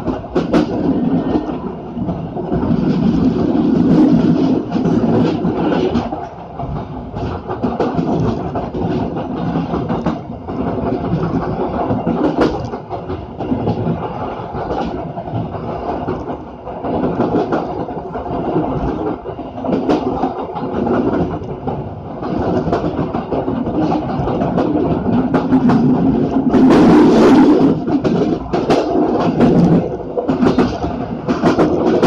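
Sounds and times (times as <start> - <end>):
clatter over rail joints: 0.0 - 32.0
train wheels rumbling on rails: 0.0 - 32.0.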